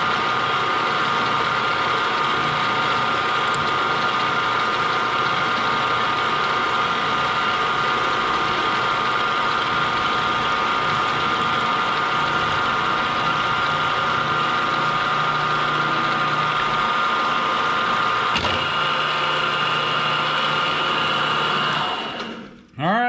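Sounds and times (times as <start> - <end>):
metal-cutting machine running: 0.0 - 22.6.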